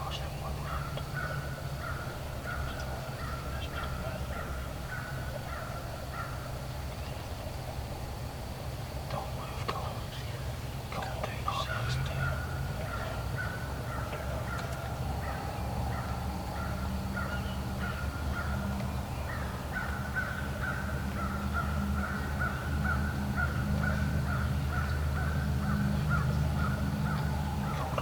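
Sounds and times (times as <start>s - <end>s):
wild turkeys calling: 0.0s - 28.0s.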